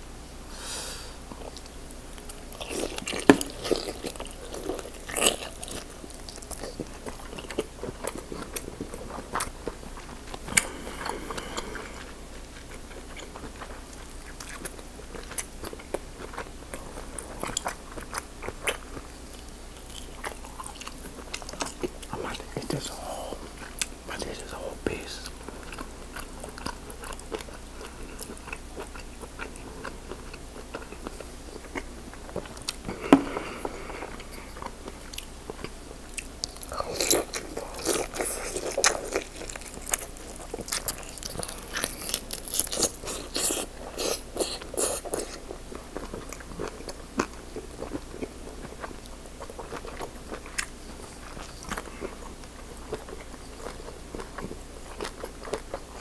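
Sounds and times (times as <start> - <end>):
person chewing and biting: 1.3 - 56.0.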